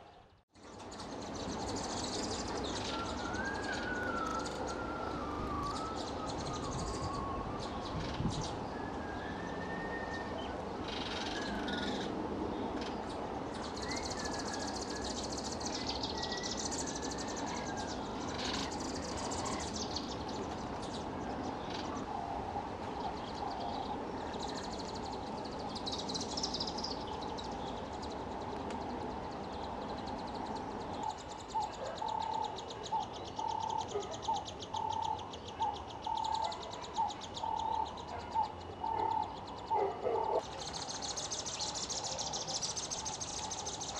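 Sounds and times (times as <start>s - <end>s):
outdoor background noise: 0.0s - 43.9s
high bird calls: 0.8s - 43.9s.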